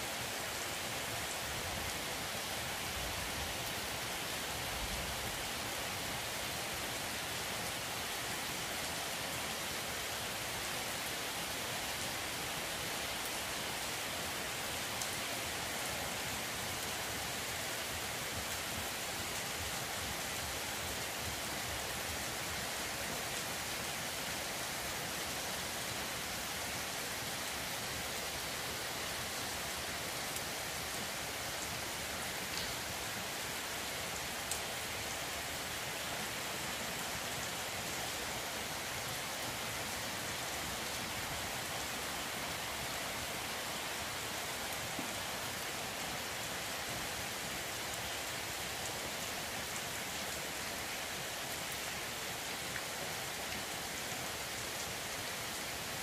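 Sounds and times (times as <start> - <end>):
heavy rain on trees: 0.0 - 56.0.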